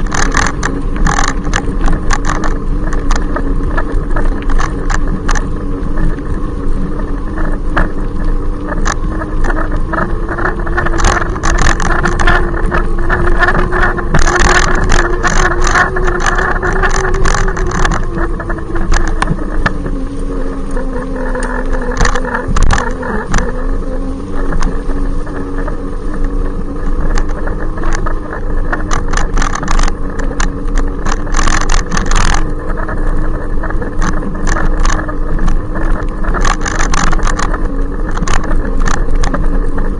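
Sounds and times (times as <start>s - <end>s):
electric bicycle motor whine: 0.0s - 39.9s
rushing noise: 0.0s - 39.9s
scattered clicks: 0.0s - 39.9s.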